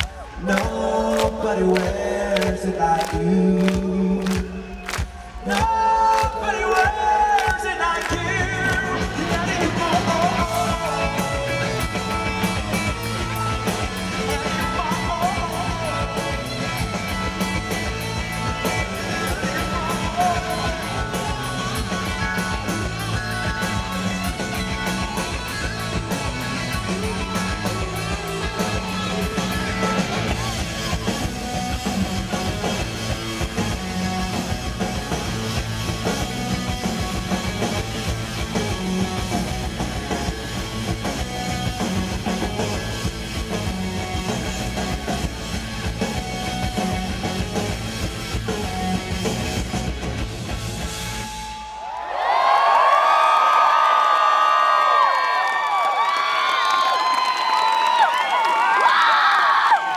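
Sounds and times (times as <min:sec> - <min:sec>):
live rock band playing: 0:01.9 - 0:51.8.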